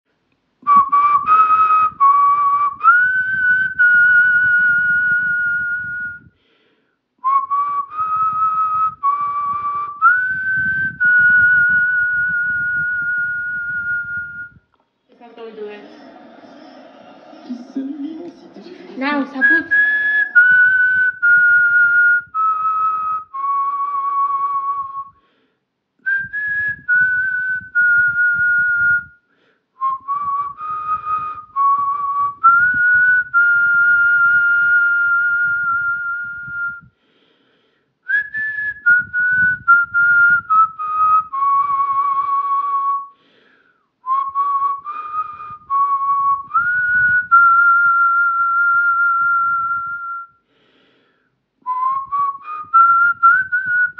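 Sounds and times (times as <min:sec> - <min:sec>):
person whistling a slow tune: 0:00.6 - 0:06.5, 0:07.2 - 0:14.7, 0:19.4 - 0:25.4, 0:26.0 - 0:37.0, 0:38.0 - 0:53.9.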